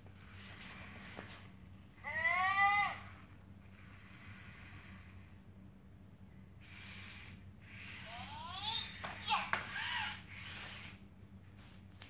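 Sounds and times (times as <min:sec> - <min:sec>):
servo motors whirring: 0:00.2 - 0:05.4, 0:06.6 - 0:11.0.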